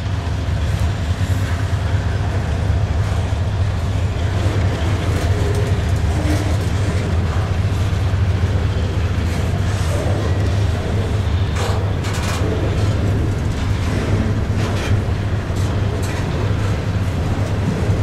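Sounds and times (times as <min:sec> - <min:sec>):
train cars rattling: 0:00.0 - 0:18.0
train wheels rumbling on rail: 0:00.0 - 0:18.0.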